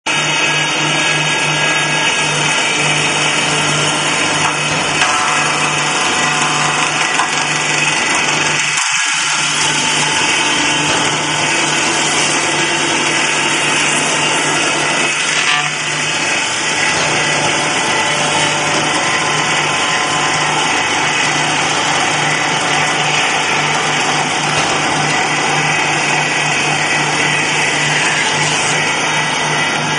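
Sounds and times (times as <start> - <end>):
cutting machine whirring: 0.1 - 29.9.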